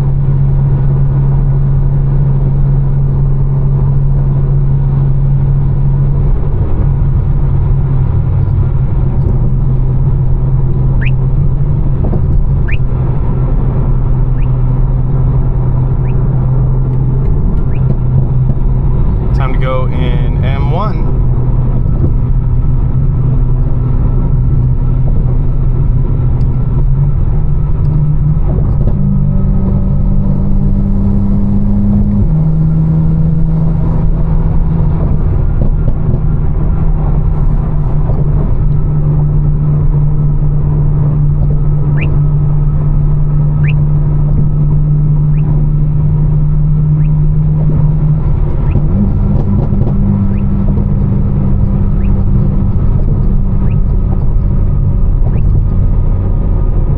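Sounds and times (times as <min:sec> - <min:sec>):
car engine droning: 0:00.0 - 0:56.9.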